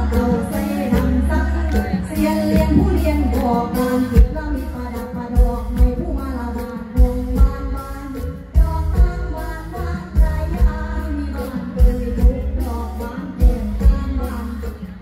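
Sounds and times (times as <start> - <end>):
amplified live band: 0.0 - 15.0
bass line: 0.0 - 15.0
woman singing through microphone: 0.0 - 15.0.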